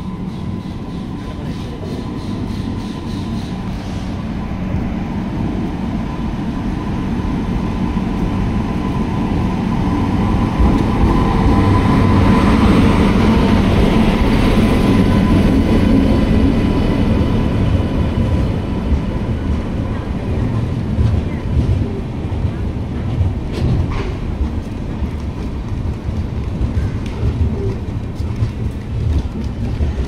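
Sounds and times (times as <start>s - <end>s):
coach wheels rumbling on rails: 0.0s - 30.0s
electric locomotive whine and rumble: 0.0s - 30.0s.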